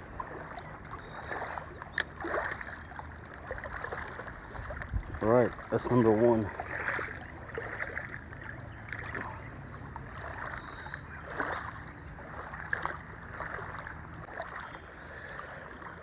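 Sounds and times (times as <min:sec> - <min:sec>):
soft splashes: 0:00.0 - 0:16.0
water lapping at rocky shore: 0:00.0 - 0:16.0
wind: 0:00.0 - 0:16.0.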